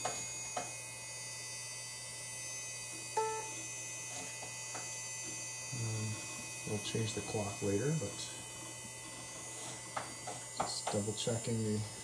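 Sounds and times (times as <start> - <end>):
computer fan and drive hum: 0.0 - 12.0.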